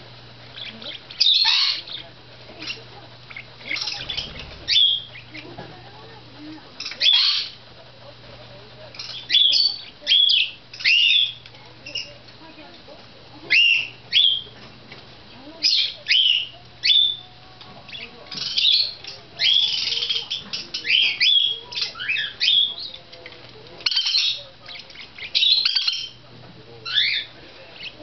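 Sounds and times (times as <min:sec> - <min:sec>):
parakeets chirping and squawking: 0:00.4 - 0:12.8, 0:13.4 - 0:28.0.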